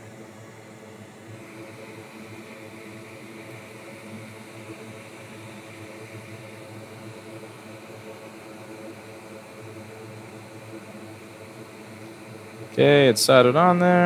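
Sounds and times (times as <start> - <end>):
fan whirring: 0.0 - 14.0
low electrical hum: 0.0 - 14.0.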